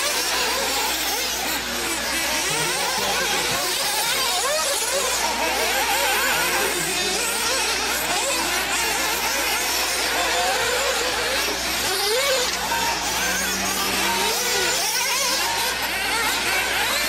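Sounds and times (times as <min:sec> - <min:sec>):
radio-controlled car motors racing: 0:00.0 - 0:17.0.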